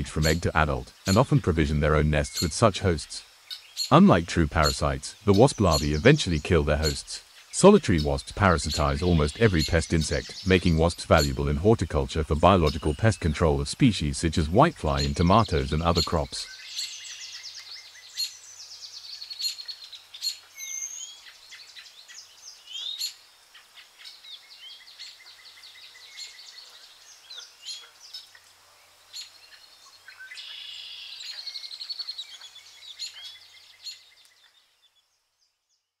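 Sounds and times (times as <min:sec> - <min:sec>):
birds chirping and trilling: 0:00.0 - 0:35.9.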